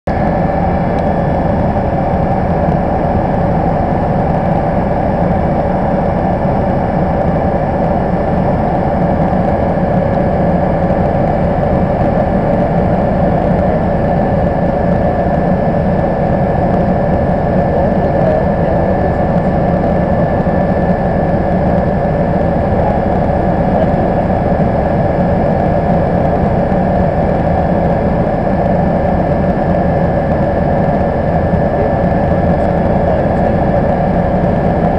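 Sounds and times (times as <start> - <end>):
helicopter engine and rotor drone: 0.1 - 34.9
steady whine: 0.1 - 34.9.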